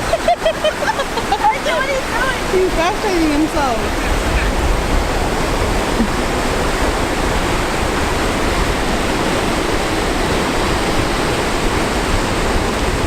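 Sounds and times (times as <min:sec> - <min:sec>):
ocean surf roaring: 0:00.0 - 0:13.0.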